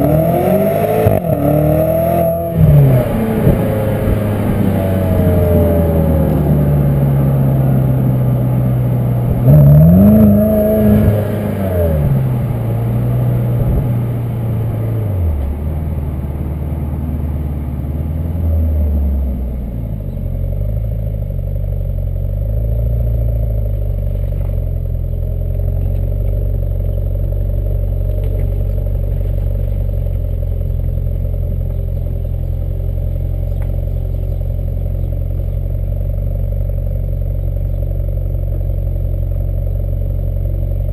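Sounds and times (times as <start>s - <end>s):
car engine revving: 0.0s - 40.9s
car engine running low: 0.0s - 40.9s.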